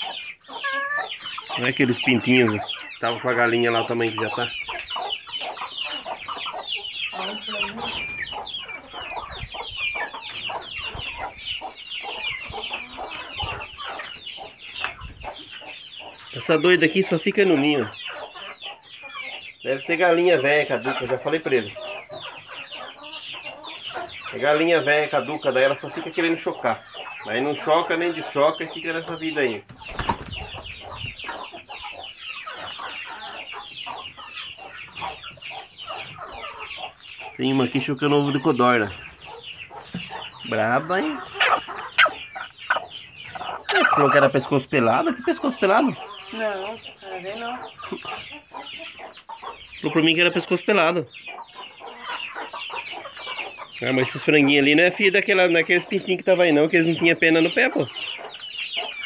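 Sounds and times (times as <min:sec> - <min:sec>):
chicks peeping: 0:00.0 - 0:59.0
hens clucking: 0:00.0 - 0:59.0.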